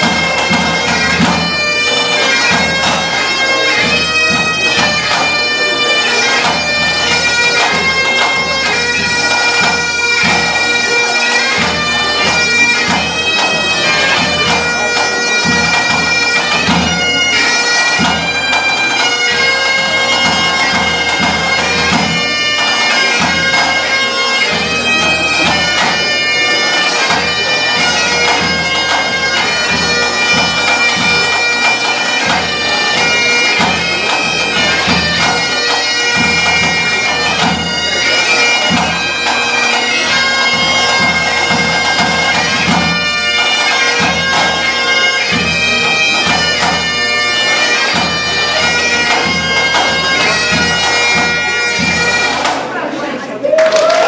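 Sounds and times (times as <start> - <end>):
snare and tenor drum: 0.0 - 10.6, 11.6 - 44.7, 45.3 - 46.9, 47.8 - 52.7
bagpipes playing a tune: 0.0 - 52.7.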